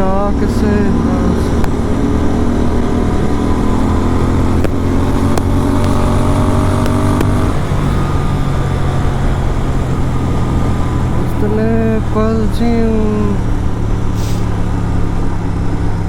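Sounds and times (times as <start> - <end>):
motorcycle engine riding: 0.0 - 16.0.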